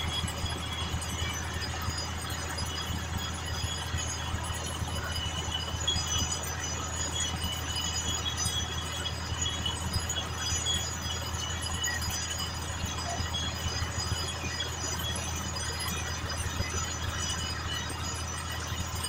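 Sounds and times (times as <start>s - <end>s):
high metallic ringing tones: 0.0s - 19.0s.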